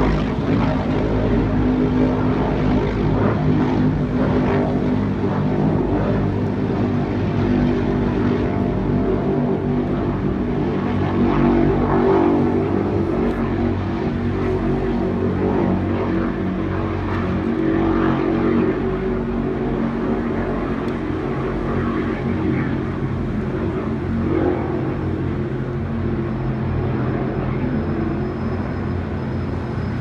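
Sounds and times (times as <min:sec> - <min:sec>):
distant engines droning: 0:00.0 - 0:30.0.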